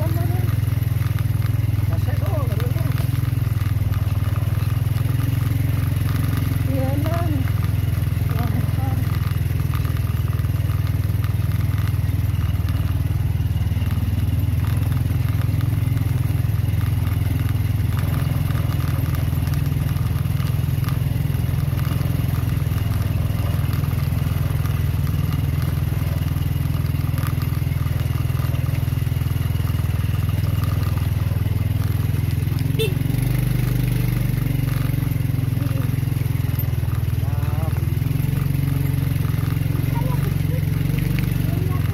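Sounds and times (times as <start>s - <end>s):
motorcycle engine running: 0.0s - 41.9s
tyres clattering over stones: 0.0s - 41.9s.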